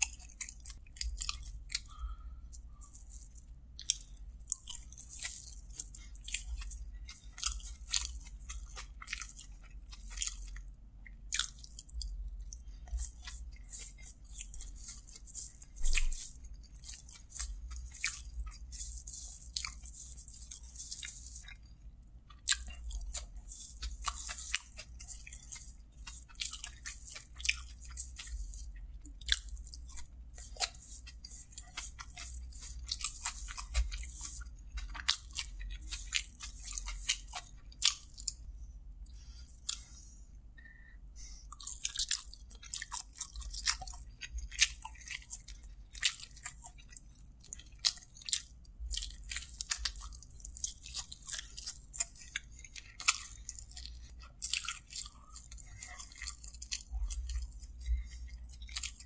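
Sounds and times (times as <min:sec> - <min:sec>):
wet mouth clicks and crunches: 0:00.0 - 0:10.7, 0:11.3 - 0:40.0, 0:41.5 - 0:59.0
person chewing food: 0:00.0 - 0:59.0.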